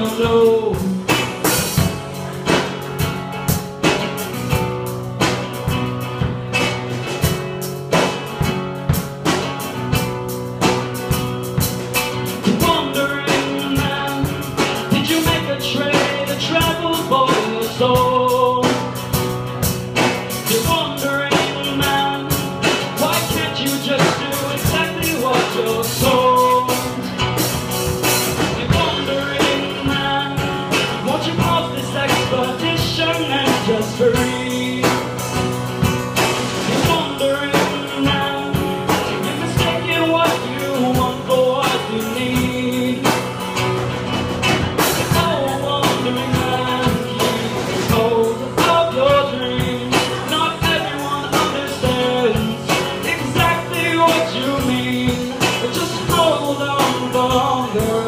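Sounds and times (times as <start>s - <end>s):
drum kit steady beat: 0.0s - 58.0s
strummed acoustic guitar: 0.0s - 58.0s.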